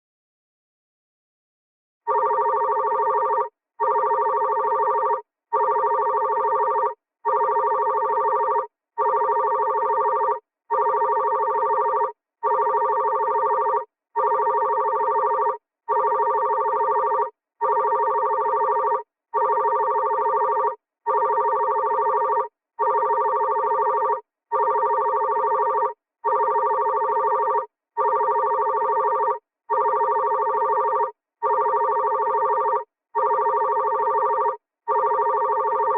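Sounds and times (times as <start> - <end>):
telephone ringing: 2.1 - 35.9.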